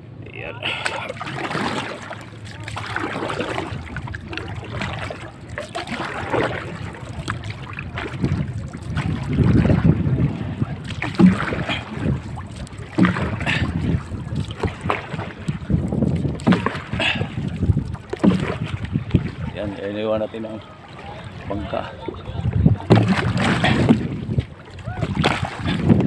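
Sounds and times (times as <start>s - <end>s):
water slapping against boat hull: 0.6s - 26.0s
wind on microphone: 3.4s - 19.8s, 21.4s - 26.0s.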